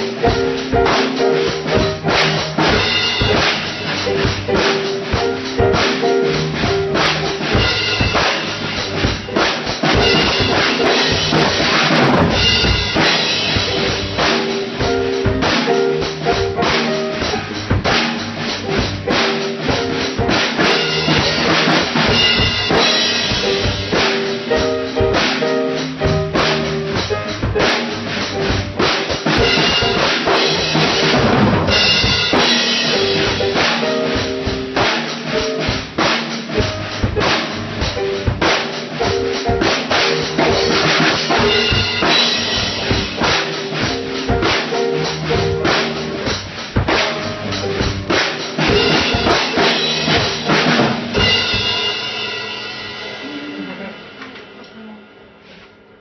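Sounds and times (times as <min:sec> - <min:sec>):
keyboard: 0:00.0 - 0:52.2
drum kit steady beat: 0:00.0 - 0:56.0.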